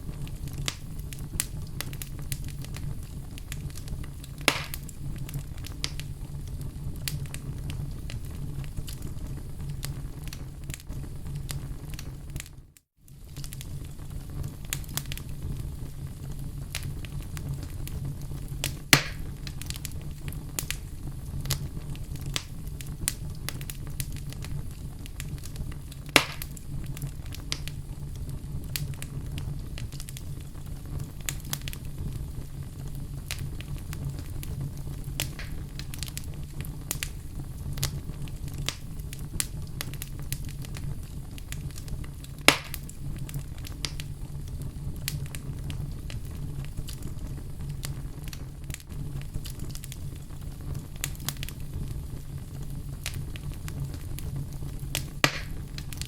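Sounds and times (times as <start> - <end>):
fire crackling in fireplace: 0.0 - 56.0
loud pops from fire: 0.0 - 56.0.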